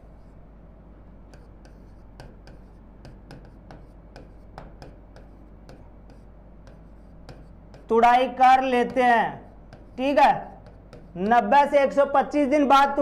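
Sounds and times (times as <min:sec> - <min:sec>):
marker pen scratching whiteboard: 0:00.0 - 0:00.4, 0:01.3 - 0:12.1
steady low hum: 0:00.0 - 0:13.0.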